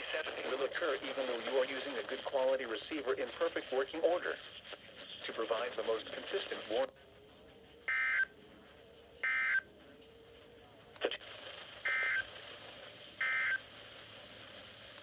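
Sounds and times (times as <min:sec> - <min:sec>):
faint radio hiss: 0:00.0 - 0:15.0.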